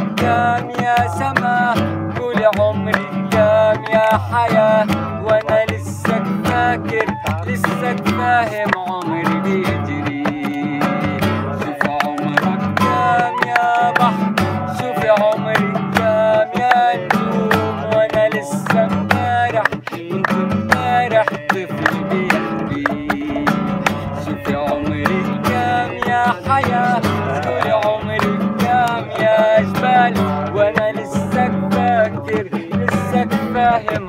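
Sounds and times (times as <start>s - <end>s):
plucked string folk music: 0.0s - 34.0s.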